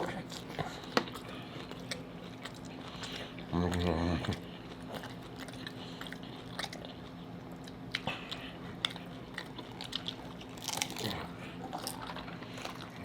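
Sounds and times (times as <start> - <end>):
chewing crunchy tacos: 0.0 - 13.0
faint low hum: 0.0 - 13.0.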